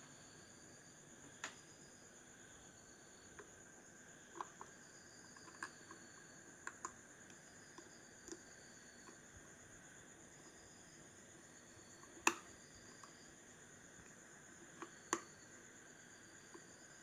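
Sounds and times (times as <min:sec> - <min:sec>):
quiet steady hiss: 0:00.0 - 0:17.0.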